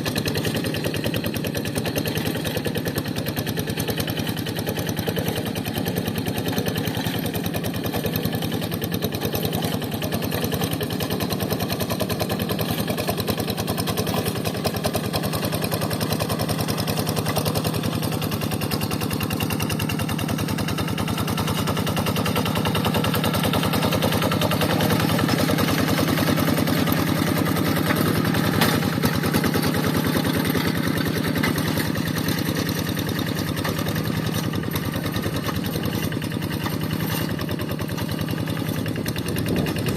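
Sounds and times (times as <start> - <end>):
diesel engine running: 5.3 - 39.9.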